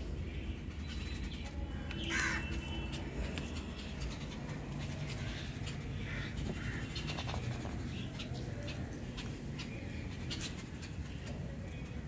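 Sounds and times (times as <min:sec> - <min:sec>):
steady low background noise: 0:00.0 - 0:12.0.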